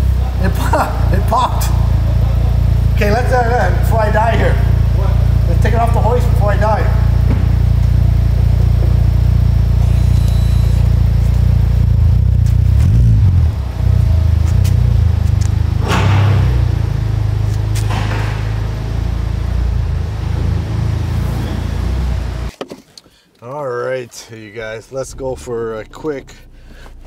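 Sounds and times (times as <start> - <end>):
car exhaust rumble: 0.0 - 22.6, 24.5 - 27.0.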